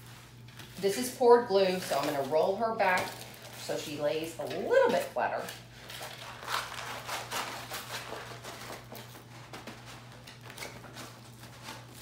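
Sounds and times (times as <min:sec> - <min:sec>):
plastic film rustling and crinkling: 0:00.0 - 0:12.0.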